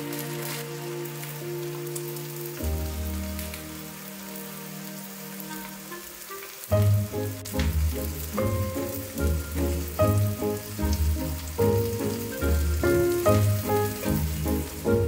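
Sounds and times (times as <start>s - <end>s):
background music with held chords: 0.0s - 15.0s
food sizzling in a frying pan: 0.0s - 15.0s.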